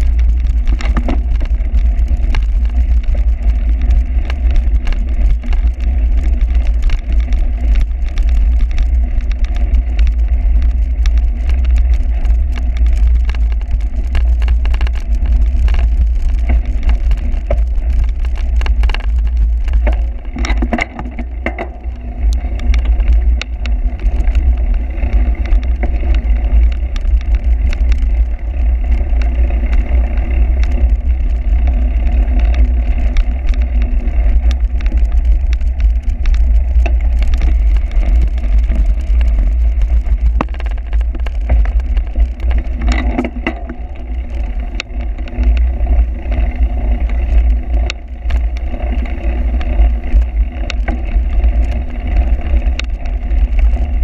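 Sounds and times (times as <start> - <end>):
bike rattling and clicking: 0.0 - 54.0
wind rumble on microphone: 0.0 - 54.0.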